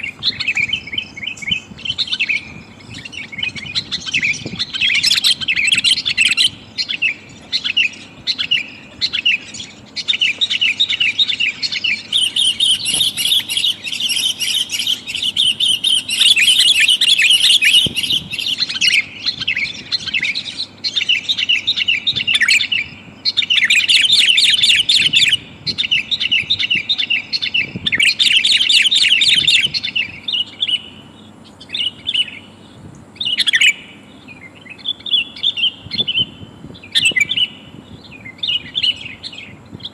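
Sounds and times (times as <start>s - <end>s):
bulbul chattering calls: 0.0s - 39.9s.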